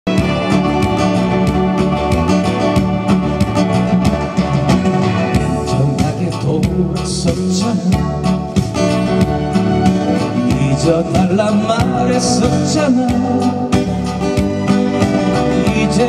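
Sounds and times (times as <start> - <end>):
acoustic guitar strumming: 0.1 - 16.0
backing track with steady beat: 0.1 - 16.0.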